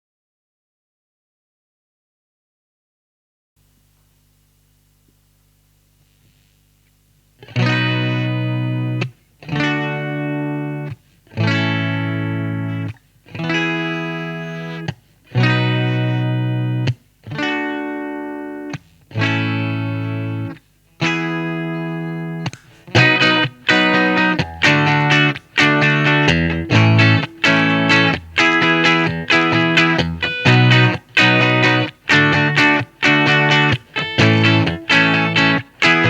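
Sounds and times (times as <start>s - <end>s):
overdriven electric guitar chords: 6.9s - 36.0s.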